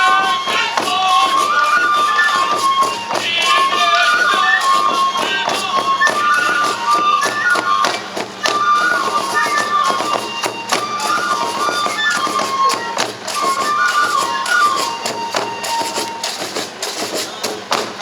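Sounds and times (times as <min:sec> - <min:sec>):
bamboo flute melody: 0:00.0 - 0:18.0
drum beats: 0:00.0 - 0:18.0
sharp percussion strikes: 0:00.0 - 0:18.0.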